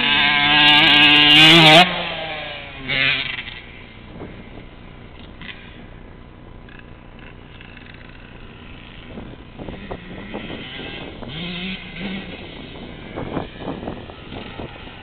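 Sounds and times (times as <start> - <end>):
dirt bike engine revving: 0.0 - 5.9, 6.6 - 15.0.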